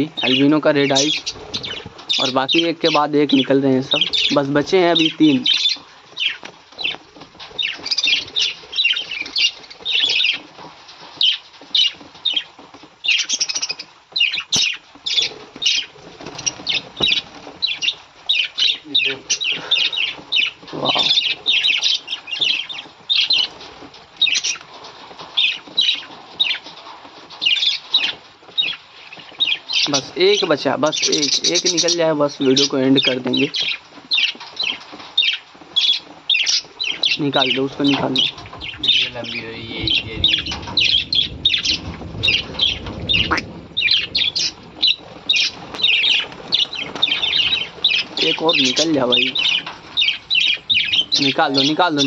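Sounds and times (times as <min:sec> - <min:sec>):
budgerigars chirping: 0:00.0 - 0:10.5, 0:11.2 - 0:24.7, 0:25.4 - 0:26.8, 0:27.4 - 0:52.0
wings fluttering: 0:00.0 - 0:52.0.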